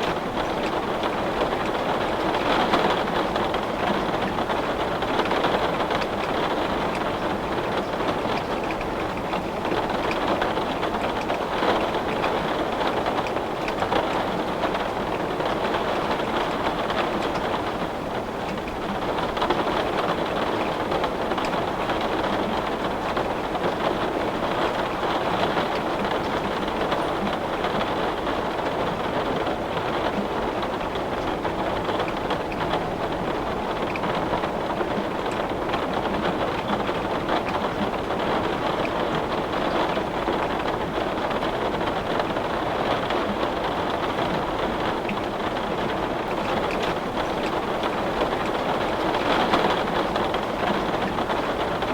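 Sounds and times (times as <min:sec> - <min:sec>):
heavy rain on a window: 0:00.0 - 0:51.9.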